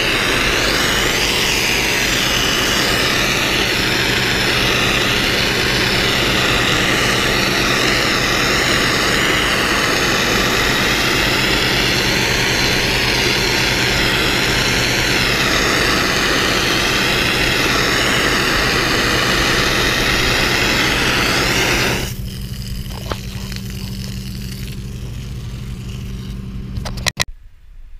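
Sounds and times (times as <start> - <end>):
water jet hissing on concrete: 0.0 - 26.4
pressure washer motor hum: 0.0 - 27.0.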